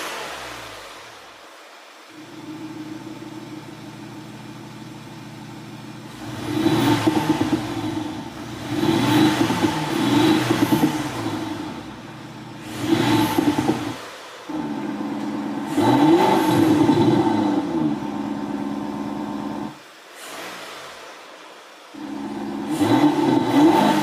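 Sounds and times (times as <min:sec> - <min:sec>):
car engine idling: 0:00.0 - 0:24.0
car engine revving: 0:02.1 - 0:24.0.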